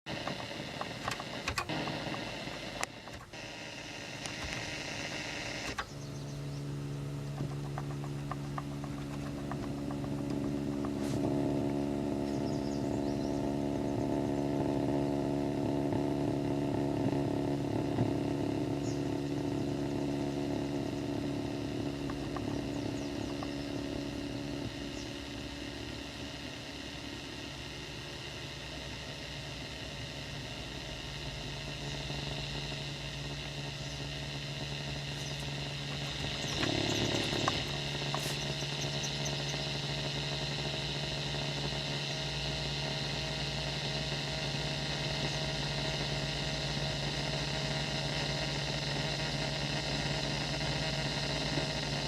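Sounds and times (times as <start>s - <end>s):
car engine running: 0.0s - 52.0s
hissing whine: 0.0s - 52.0s.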